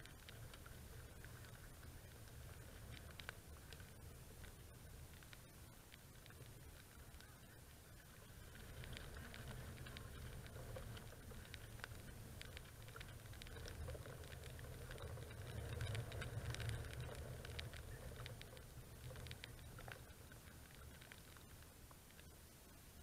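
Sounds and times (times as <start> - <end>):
wind rumble on microphone: 0.0 - 21.7
raindrops ticking on camera: 0.0 - 23.0.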